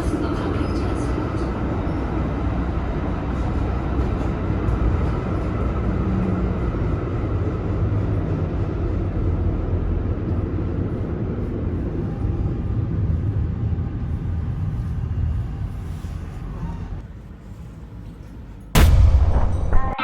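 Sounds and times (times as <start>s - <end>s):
tram rumble: 0.0s - 18.8s.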